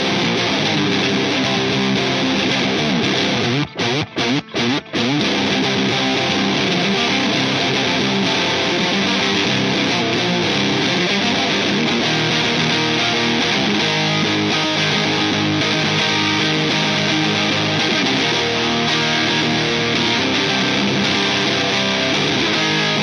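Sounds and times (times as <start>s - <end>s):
distorted electric guitar riff: 0.0s - 23.0s.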